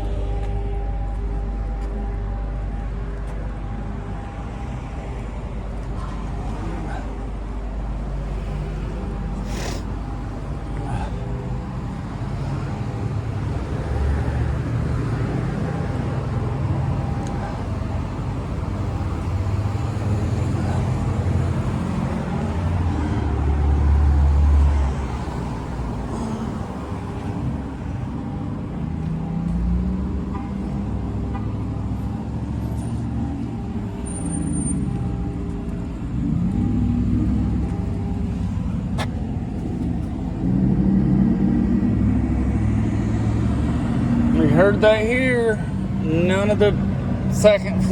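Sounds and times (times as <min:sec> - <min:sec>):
traffic engine rumble: 0:00.0 - 0:47.9.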